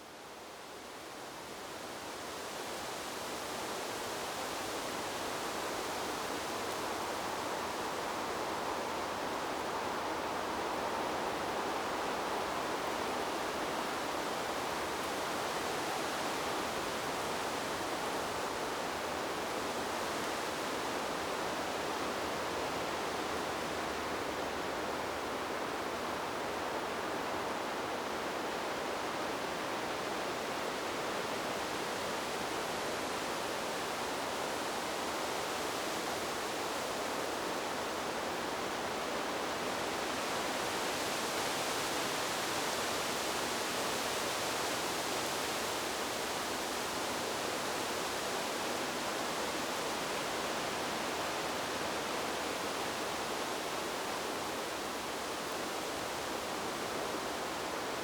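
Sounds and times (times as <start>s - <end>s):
wind rushing through trees: 0.0s - 58.0s.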